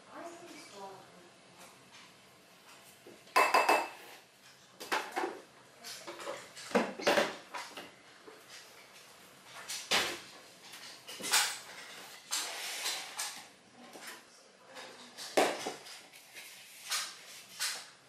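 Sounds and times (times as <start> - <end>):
utensils clattering and knocking: 1.9 - 18.0.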